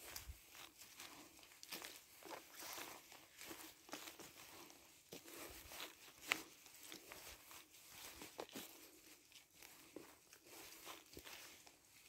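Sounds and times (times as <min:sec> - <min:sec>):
footsteps on leaves and twigs: 0:00.0 - 0:12.0.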